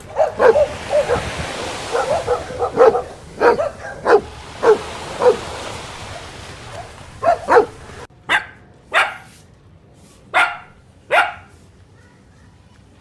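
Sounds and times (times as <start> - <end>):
dog barking: 0.0 - 9.3, 10.4 - 11.6.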